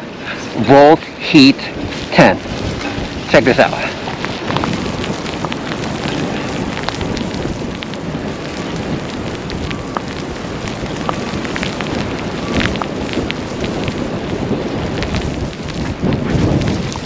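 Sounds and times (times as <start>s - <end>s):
blizzard wind rushing: 0.0s - 17.0s
small crackling ticks: 1.8s - 17.0s.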